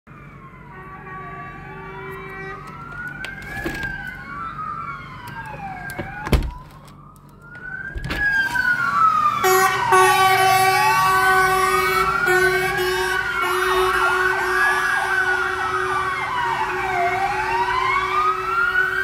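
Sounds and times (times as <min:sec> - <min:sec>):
fire engine sirens wailing: 0:00.1 - 0:19.0.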